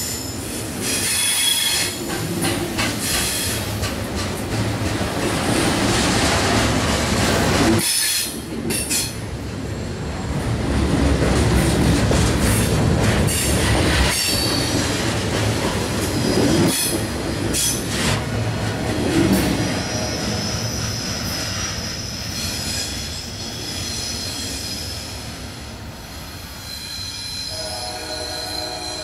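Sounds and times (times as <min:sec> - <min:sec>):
railroad cars rumbling: 0:00.0 - 0:29.0.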